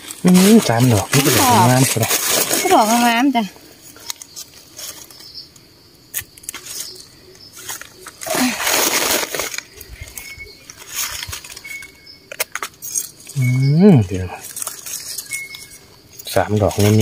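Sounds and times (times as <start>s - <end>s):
dry leaves rustling: 0.0s - 17.0s.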